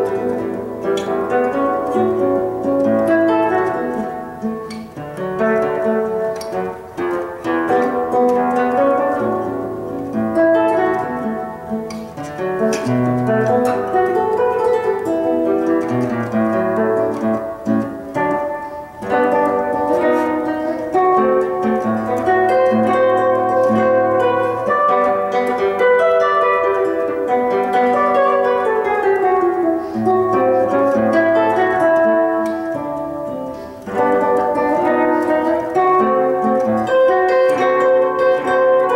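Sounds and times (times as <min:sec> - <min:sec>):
fingerstyle classical guitar: 0:00.0 - 0:38.9.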